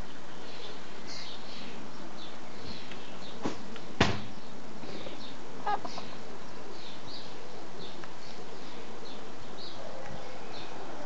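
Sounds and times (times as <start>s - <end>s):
birds chirping: 0.0s - 11.0s
steady outdoor hiss: 0.0s - 11.0s.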